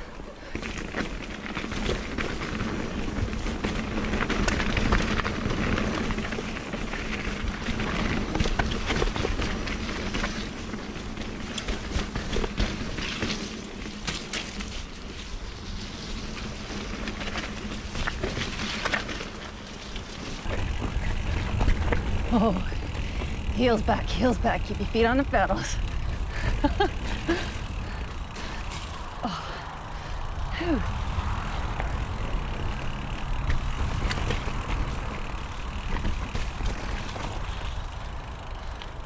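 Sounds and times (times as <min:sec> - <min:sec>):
bike clicking and rattling: 0:00.0 - 0:39.0
bike tyres on dirt trail: 0:00.0 - 0:39.0.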